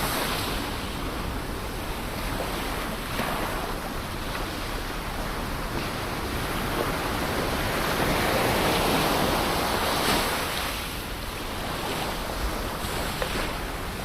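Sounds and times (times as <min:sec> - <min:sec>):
wave breaking and washing in: 0:00.0 - 0:14.0.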